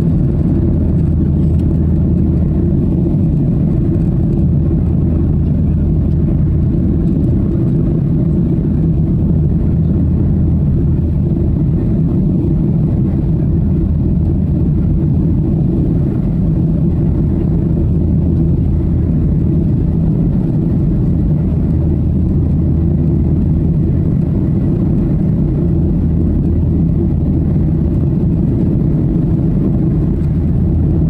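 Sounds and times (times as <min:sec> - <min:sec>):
airplane cabin drone: 0:00.0 - 0:31.0.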